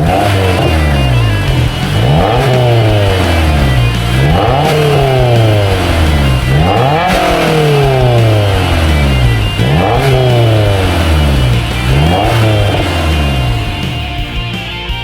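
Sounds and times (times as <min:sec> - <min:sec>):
car engine revving: 0:00.0 - 0:14.5.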